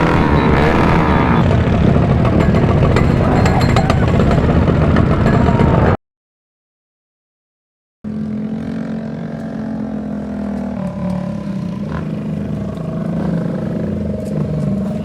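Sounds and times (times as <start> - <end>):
small motorcycle engines droning: 0.0 - 6.0, 8.1 - 15.0.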